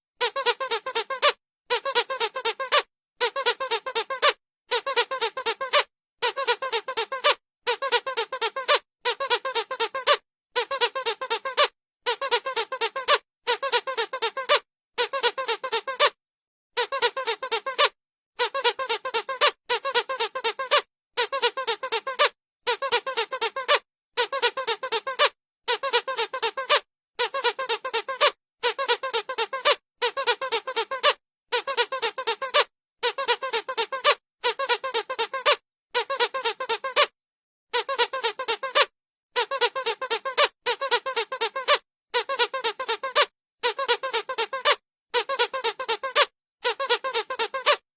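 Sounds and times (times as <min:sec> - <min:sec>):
squeaky dog toy squeaks: 0:00.2 - 0:16.2, 0:16.8 - 0:47.8.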